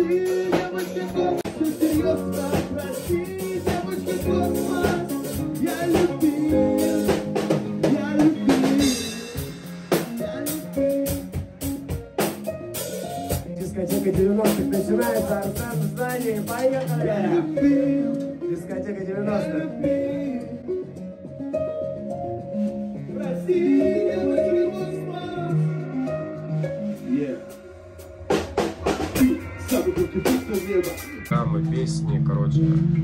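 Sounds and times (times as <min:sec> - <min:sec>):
bass guitar notes: 0:00.0 - 0:33.0
drum kit beat: 0:00.0 - 0:33.0
electric guitar: 0:00.0 - 0:33.0.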